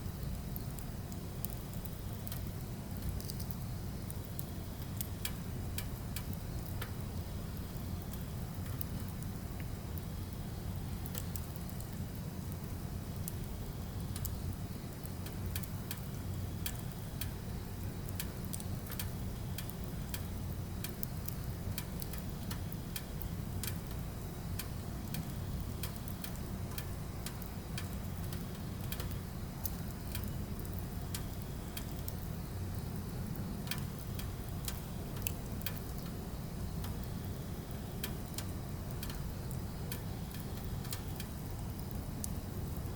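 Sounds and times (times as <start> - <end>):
firewood crackling and popping: 0.0 - 42.9
low rumble of flames: 0.0 - 42.9.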